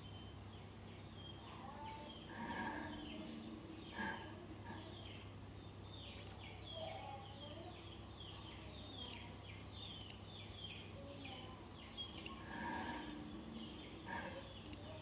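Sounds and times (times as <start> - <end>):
faint bird chirping: 0.0 - 15.0
low steady hum: 0.0 - 15.0.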